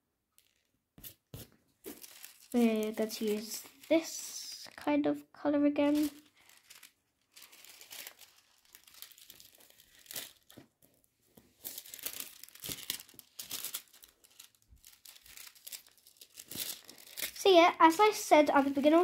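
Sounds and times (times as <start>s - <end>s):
metallic foil crinkling: 1.8s - 4.8s, 5.8s - 19.0s.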